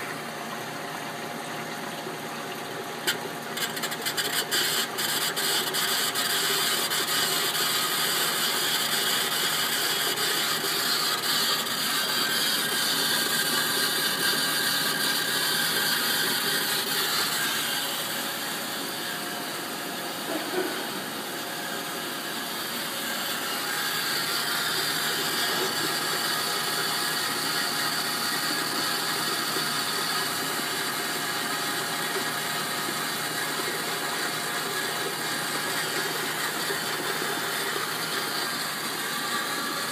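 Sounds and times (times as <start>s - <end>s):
machine whirring and humming: 0.0s - 39.9s.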